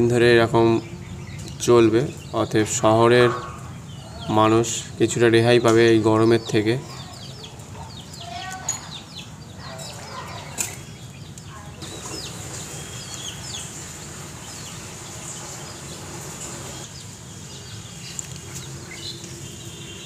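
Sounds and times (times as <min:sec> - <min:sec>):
bird chirps: 0:00.0 - 0:20.0
steady outdoor hiss: 0:00.0 - 0:20.0.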